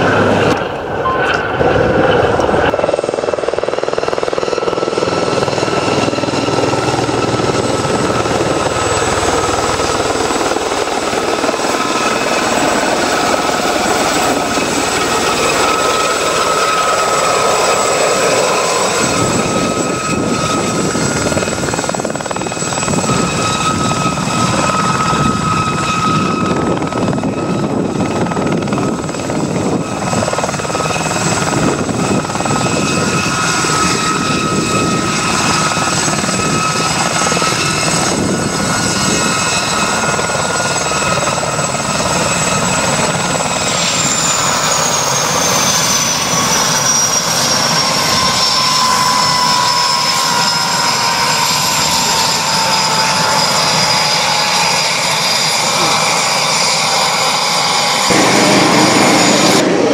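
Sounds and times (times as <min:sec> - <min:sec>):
helicopter high whine: 0:00.0 - 0:59.9
helicopter rotor beat: 0:00.0 - 0:59.9.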